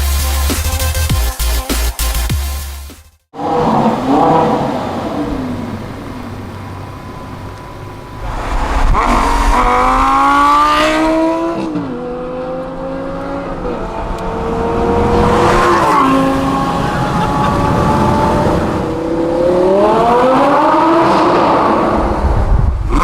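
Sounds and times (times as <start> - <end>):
car engine accelerating hard: 3.4 - 23.0.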